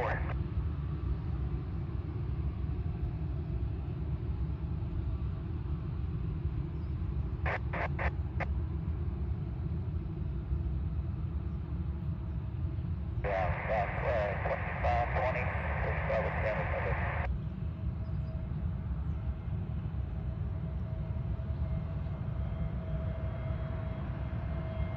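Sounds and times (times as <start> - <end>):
jet aircraft rumble: 0.0 - 24.9.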